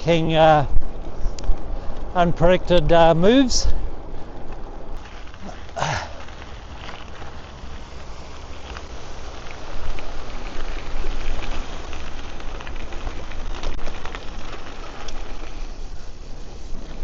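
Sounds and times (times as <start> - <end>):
bike tyres crackling: 0.0 - 17.0
wind rumbling on microphone: 0.0 - 17.0.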